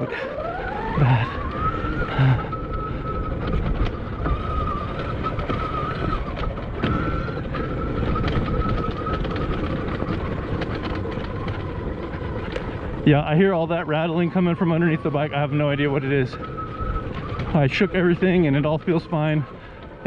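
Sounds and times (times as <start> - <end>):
electric motor whine: 0.0 - 20.0
wind buffeting microphone: 0.0 - 20.0.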